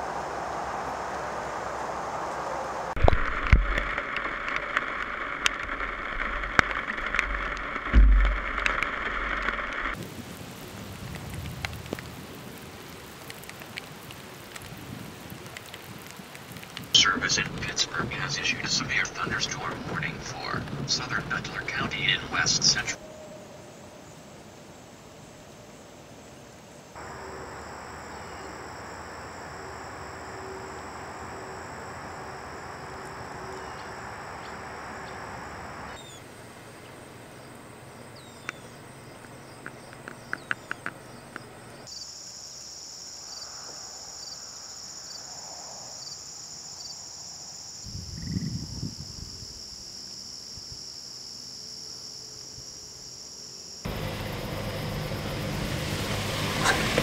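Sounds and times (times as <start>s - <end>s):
insects trilling: 10.2s - 57.0s.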